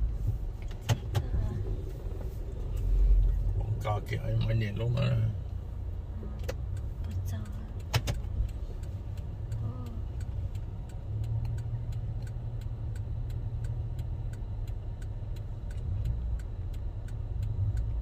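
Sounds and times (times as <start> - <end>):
car engine idling: 0.0 - 18.0
light regular ticking: 0.0 - 18.0.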